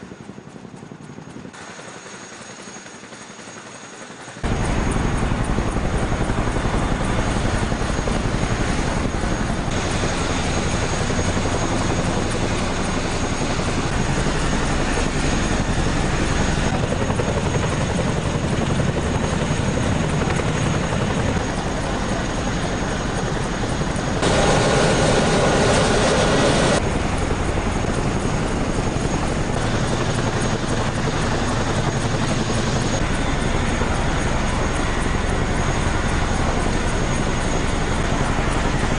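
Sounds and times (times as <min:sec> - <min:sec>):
helicopter rotor beat: 0:00.0 - 0:38.9
high steady whine: 0:04.4 - 0:36.8
turbine noise: 0:04.4 - 0:38.9.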